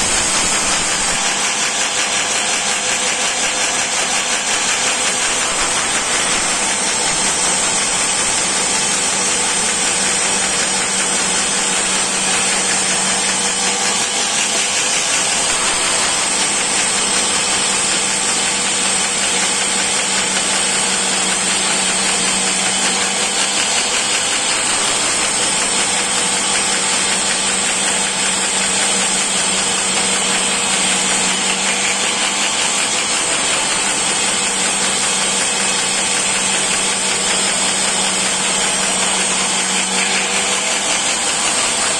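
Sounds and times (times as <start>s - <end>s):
woodworking machine humming: 0.0s - 41.9s.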